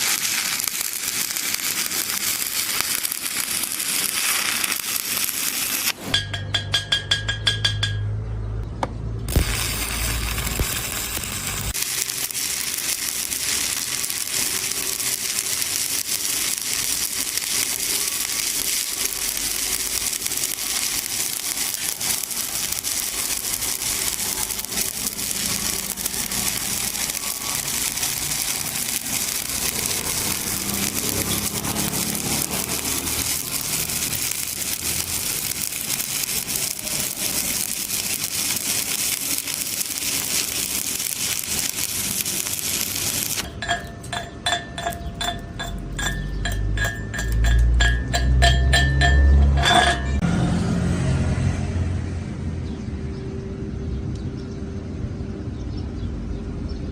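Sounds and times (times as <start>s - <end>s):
welding arc crackling: 0.0s - 8.0s, 9.2s - 50.2s.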